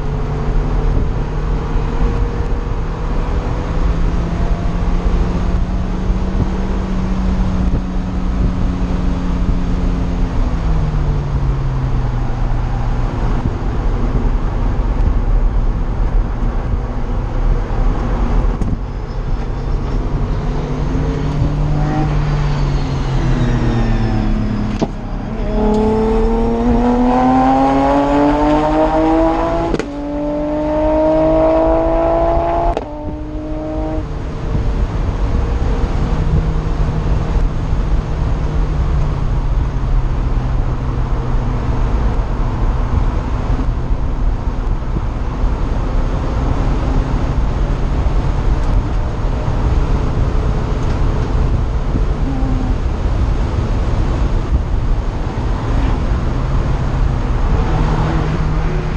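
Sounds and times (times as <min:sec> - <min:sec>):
car engine accelerating: 0:00.0 - 0:58.9
wind noise: 0:00.0 - 0:58.9.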